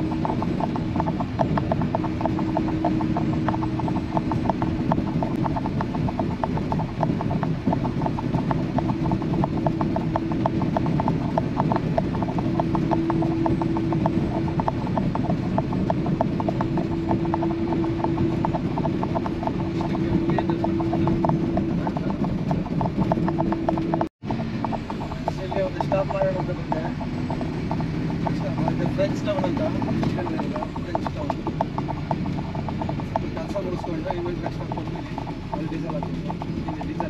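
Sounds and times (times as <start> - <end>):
car road noise: 0.0 - 37.0
hum: 0.0 - 37.0
small clicks and rattles: 0.0 - 37.0.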